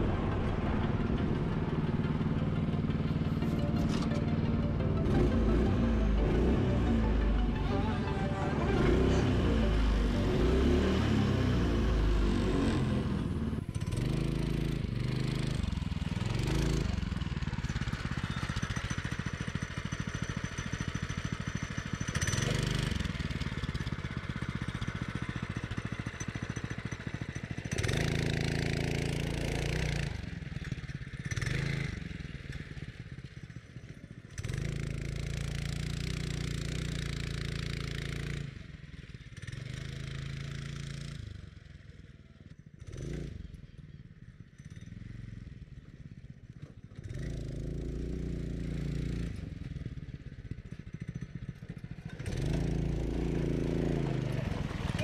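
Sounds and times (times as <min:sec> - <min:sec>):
buggy engine revving: 0:00.0 - 0:41.9, 0:42.8 - 0:43.8, 0:44.9 - 0:55.0.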